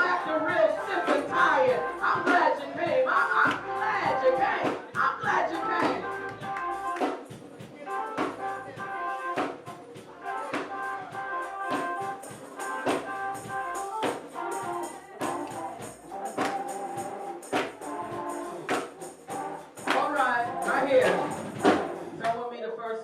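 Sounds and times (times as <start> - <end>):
sharp percussion hits: 0.0 - 22.3.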